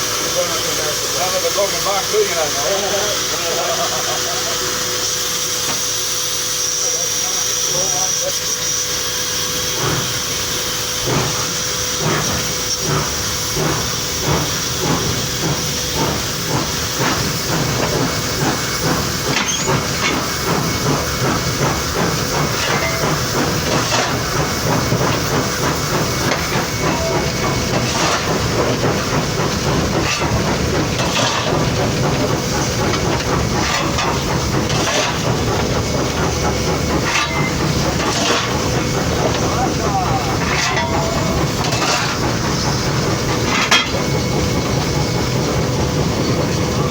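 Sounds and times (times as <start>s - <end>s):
rail noise: 0.0s - 46.9s
steam hiss: 0.0s - 46.9s
locomotive exhaust beats: 4.6s - 46.9s.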